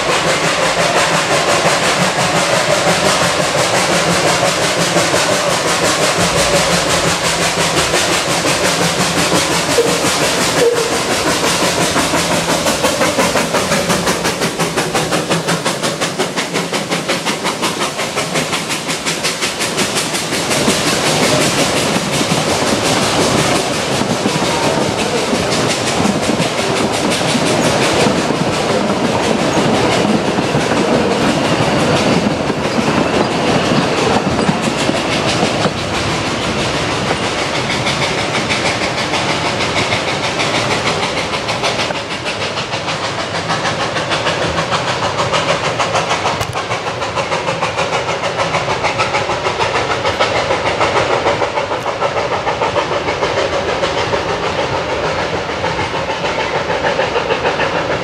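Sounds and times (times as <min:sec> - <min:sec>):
train wheels clattering over rails: 0:00.0 - 0:58.0.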